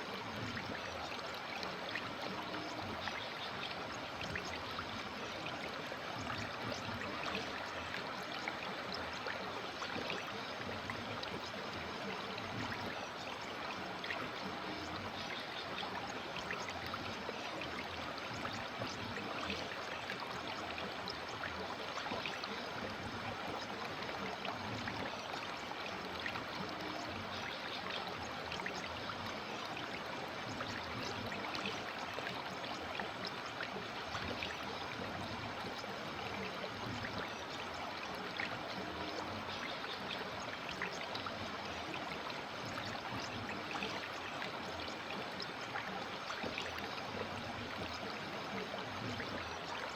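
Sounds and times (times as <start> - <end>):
river water flowing over rocks: 0.0 - 49.9
small splashes and trickles: 0.0 - 49.9.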